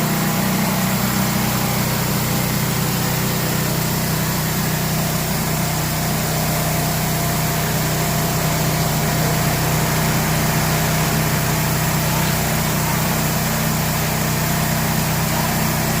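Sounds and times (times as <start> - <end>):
pressure washer engine running: 0.0 - 16.0.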